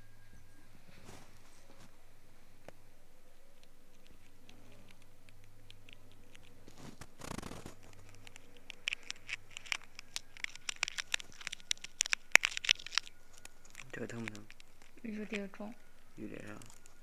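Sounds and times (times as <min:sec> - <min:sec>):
ear scraping clicks: 0:00.9 - 0:17.0.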